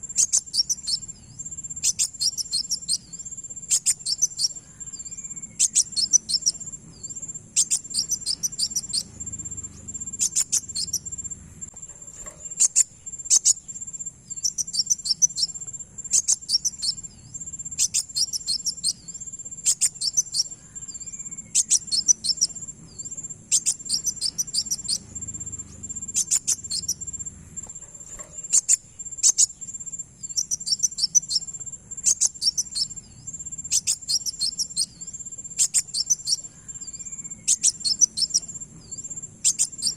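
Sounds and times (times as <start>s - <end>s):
high sharp bird chirping: 0.0s - 39.9s.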